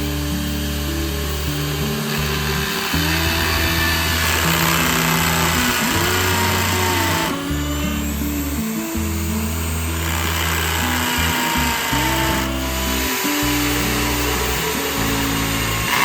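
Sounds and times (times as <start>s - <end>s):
background music with bass line: 0.0s - 16.0s
drill motor running: 0.0s - 16.0s.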